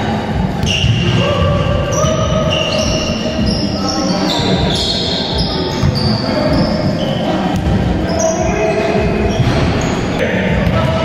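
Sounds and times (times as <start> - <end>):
sneakers squeaking on floor: 0.4 - 11.0.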